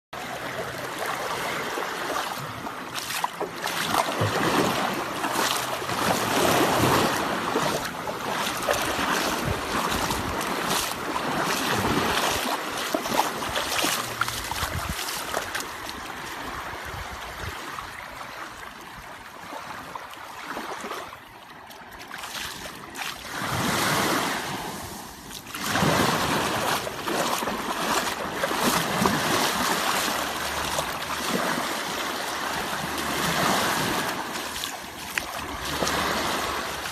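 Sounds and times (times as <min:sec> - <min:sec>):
sea waves breaking: 0:00.2 - 0:36.9.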